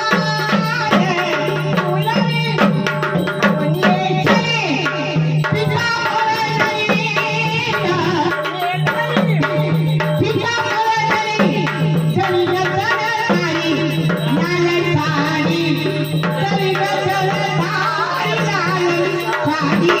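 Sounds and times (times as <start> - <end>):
hand drumming: 0.0 - 20.0
woman singing: 0.0 - 20.0.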